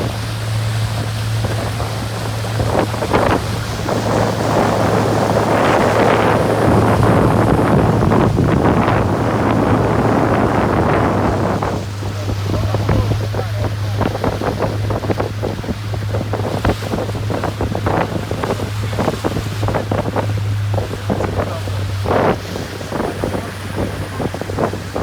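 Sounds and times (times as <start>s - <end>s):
boat engine hum: 0.0s - 25.0s
water splashing against hull: 0.0s - 25.0s
wind buffeting microphone: 0.0s - 25.0s.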